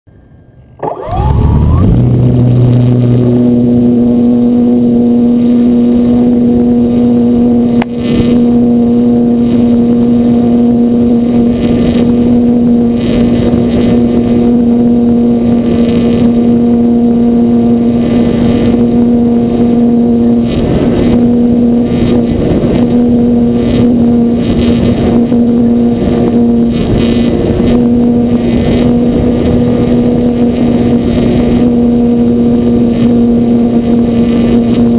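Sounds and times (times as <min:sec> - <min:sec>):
model airplane motor buzzing: 0:00.8 - 0:34.9.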